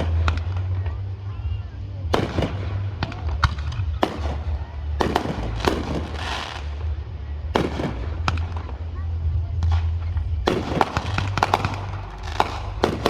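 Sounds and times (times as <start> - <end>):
fireworks bangs: 0.0 - 13.0
fireworks crackle: 0.0 - 13.0
low rumble: 0.0 - 13.0.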